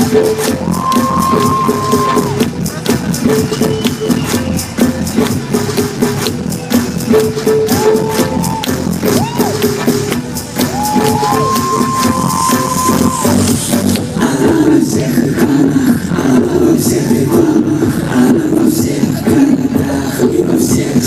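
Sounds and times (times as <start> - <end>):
loud dance music: 0.0 - 21.0.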